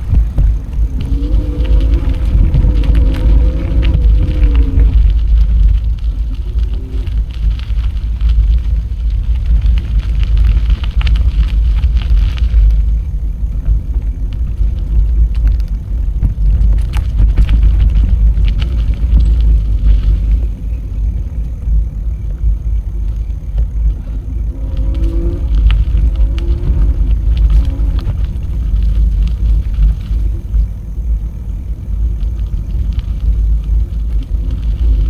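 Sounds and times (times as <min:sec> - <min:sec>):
bicycle tyre noise: 0:00.0 - 0:35.0
small clicks and rattles: 0:00.0 - 0:35.0
wind rumbling on microphone: 0:00.0 - 0:35.0.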